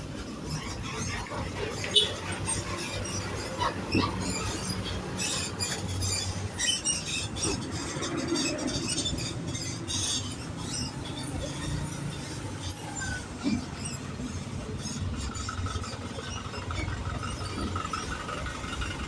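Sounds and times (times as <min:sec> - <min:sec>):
bus engine rumbling: 0:00.0 - 0:19.0
high-pitched squeaks: 0:00.2 - 0:19.0.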